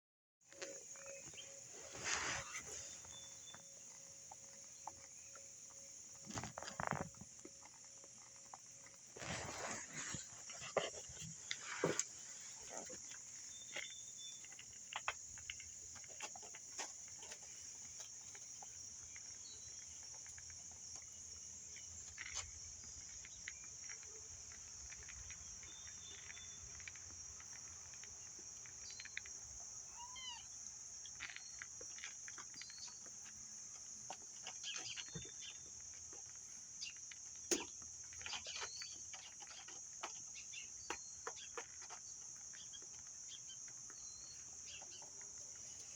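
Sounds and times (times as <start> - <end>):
insects droning: 0.5 - 45.9.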